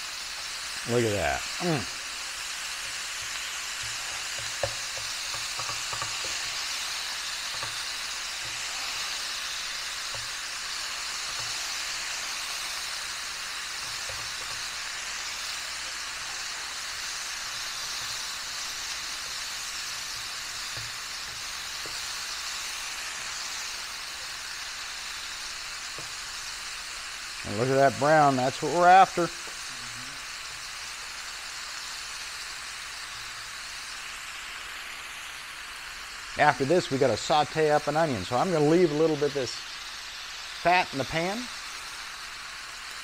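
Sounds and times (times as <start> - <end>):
meat sizzling in a frying pan: 0.0 - 43.0.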